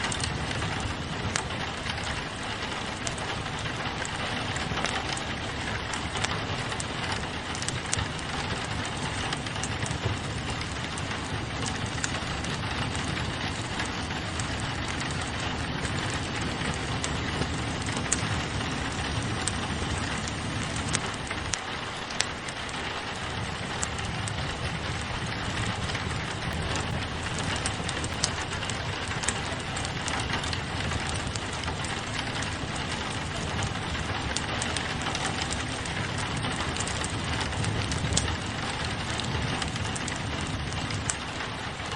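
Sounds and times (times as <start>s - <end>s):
rain pattering on a window: 0.0s - 41.9s
wood fire crackling: 0.0s - 41.9s.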